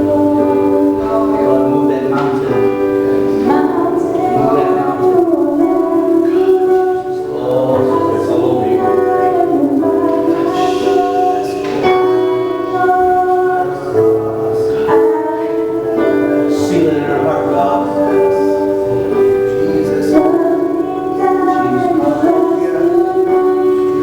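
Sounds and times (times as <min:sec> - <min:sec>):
congregation singing: 0:00.0 - 0:24.0
instrumental accompaniment: 0:00.0 - 0:24.0.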